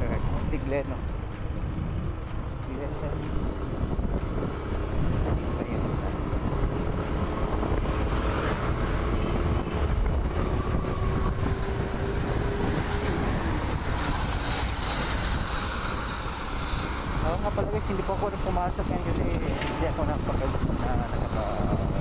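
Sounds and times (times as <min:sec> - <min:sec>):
road and wind rumble: 0:00.0 - 0:22.0
scooter engine drone: 0:00.0 - 0:22.0.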